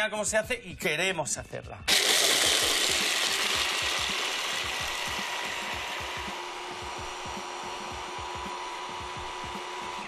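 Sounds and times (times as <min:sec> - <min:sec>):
hand blender chopping nuts: 0:01.9 - 0:10.0.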